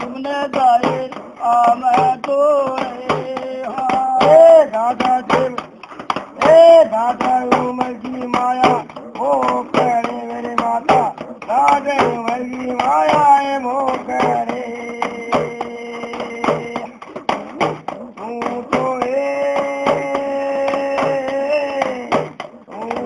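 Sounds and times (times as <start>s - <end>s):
man singing: 0.0s - 23.0s
regular drum beat: 0.0s - 23.0s.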